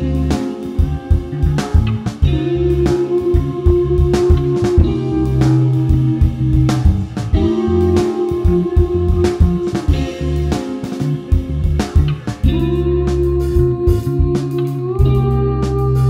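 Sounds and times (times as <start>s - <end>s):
steady drum beat: 0.0s - 16.0s
sustained electric guitar notes: 0.0s - 16.0s.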